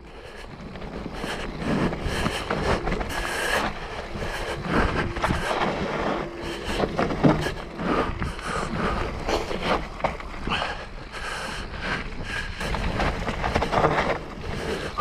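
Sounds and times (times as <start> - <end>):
bike knocking and rattling: 0.0 - 15.0
bike tyres rolling on dirt: 0.0 - 15.0.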